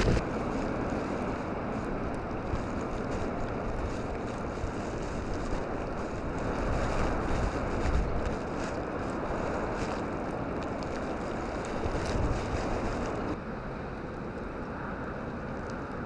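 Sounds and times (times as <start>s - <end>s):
blizzard wind blowing: 0.0s - 13.4s
wind buffeting microphone: 0.0s - 13.4s.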